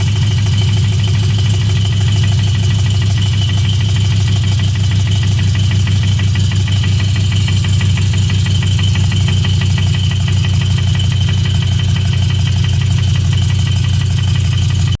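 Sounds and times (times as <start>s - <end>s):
engine running steadily: 0.0s - 15.0s
fast even engine ticking: 0.0s - 15.0s.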